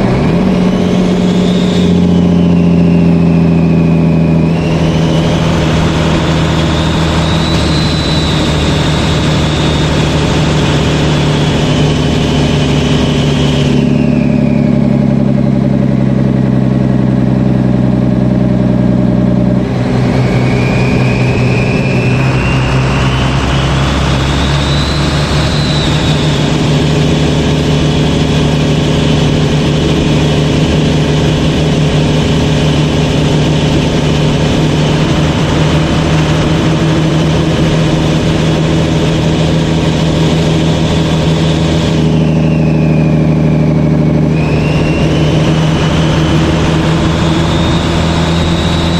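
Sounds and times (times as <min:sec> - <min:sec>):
turbo whistling: 0:00.0 - 0:18.7, 0:19.6 - 0:48.9
diesel engine droning: 0:00.0 - 0:48.9.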